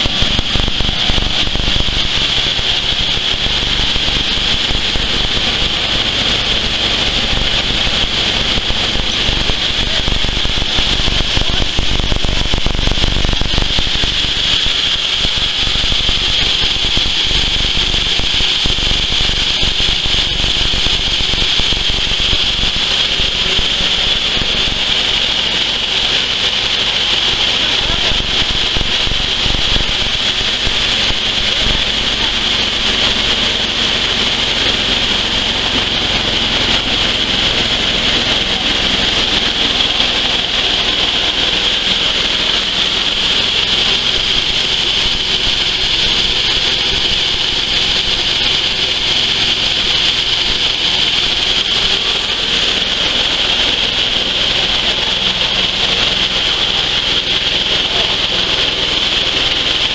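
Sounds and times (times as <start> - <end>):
machine running with high hiss: 0.0 - 59.9.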